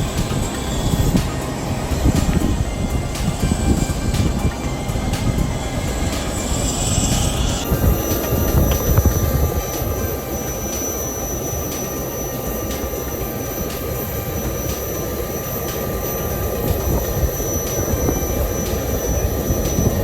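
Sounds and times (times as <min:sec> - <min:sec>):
jet engine whine and rumble: 0:00.0 - 0:20.0.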